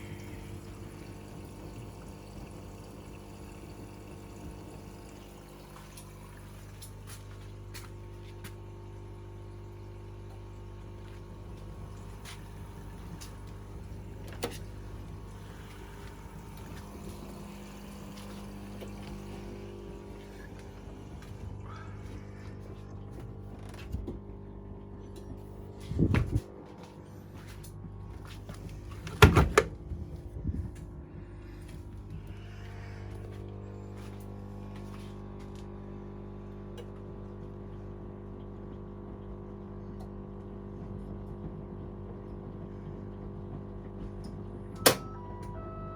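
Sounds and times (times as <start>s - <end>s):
washing machine running: 0.0s - 45.9s.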